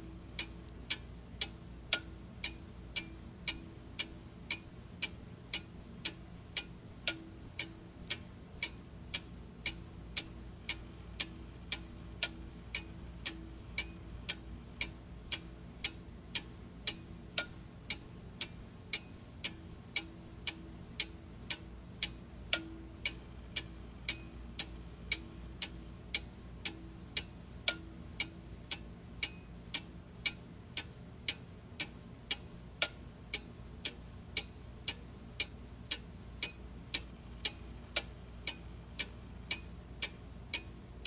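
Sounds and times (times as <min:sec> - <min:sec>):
clock ticking: 0:00.0 - 0:41.0
faint steady hum: 0:00.0 - 0:41.0.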